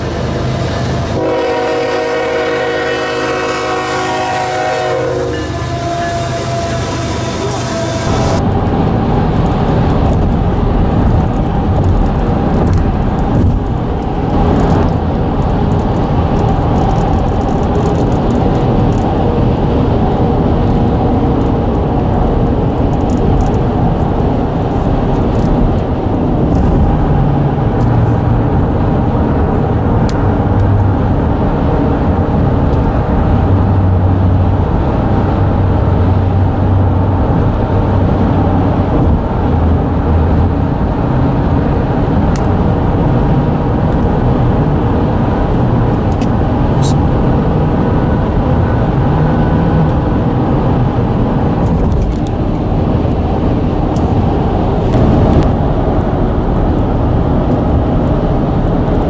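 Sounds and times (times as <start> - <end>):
deeper drone: 0.0 - 59.0
tyre and road rumble: 0.0 - 59.0.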